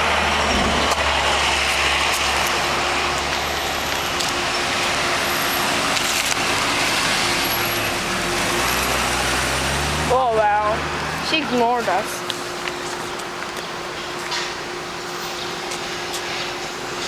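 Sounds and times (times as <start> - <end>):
cars passing by: 0.0 - 17.0.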